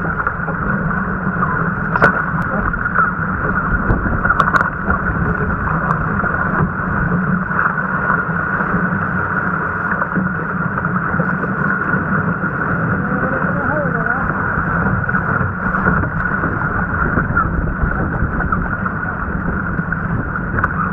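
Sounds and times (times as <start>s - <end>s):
water splashing along boat hull: 0.0s - 20.9s
wind on microphone: 0.0s - 20.9s.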